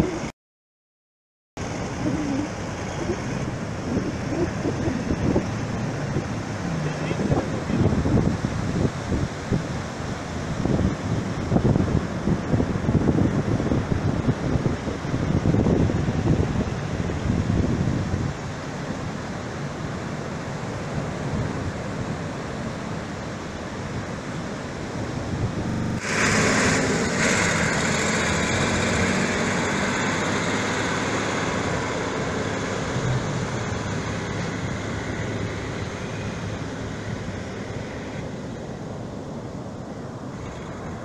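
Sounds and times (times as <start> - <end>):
ocean surf washing in: 1.6 - 41.0
wind on microphone: 1.9 - 39.7.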